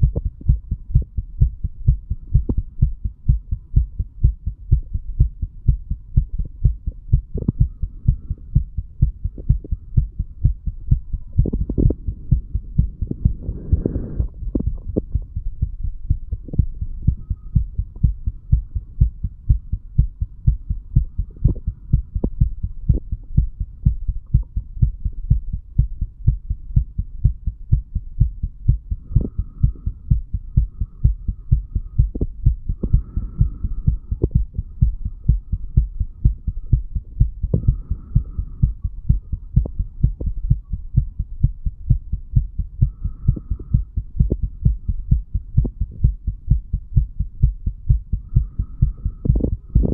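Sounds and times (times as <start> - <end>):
heart beating: 0.0 - 49.9.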